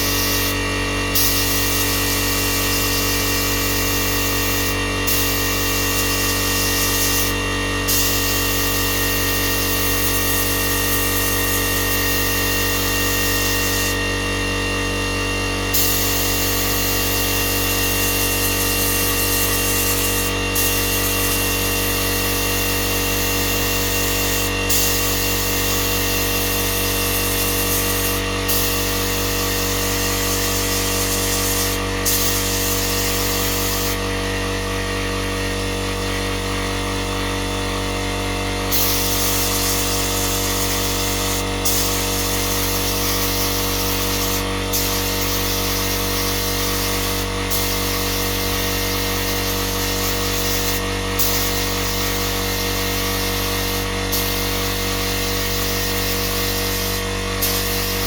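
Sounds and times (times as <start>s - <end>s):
power tool motor hum: 0.0s - 58.0s.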